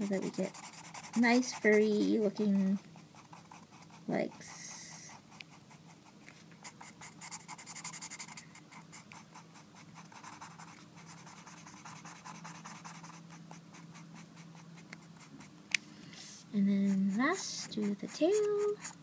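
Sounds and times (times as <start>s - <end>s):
marker scratching on card: 0.0s - 2.3s, 3.0s - 15.6s, 16.9s - 19.0s.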